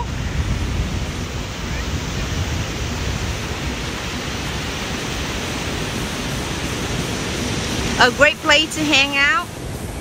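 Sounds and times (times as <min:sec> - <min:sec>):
ocean surf: 0:00.0 - 0:10.0
wind: 0:00.0 - 0:10.0.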